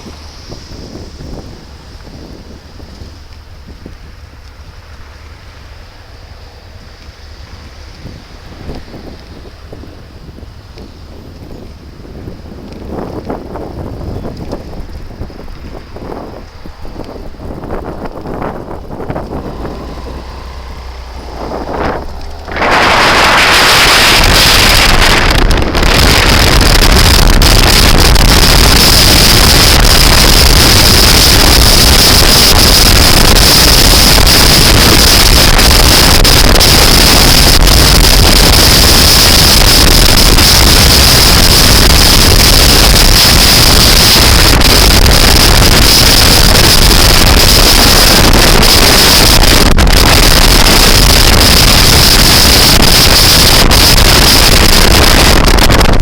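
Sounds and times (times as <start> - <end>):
scooter engine running: 0.0 - 56.0
wind buffeting microphone: 0.0 - 56.0.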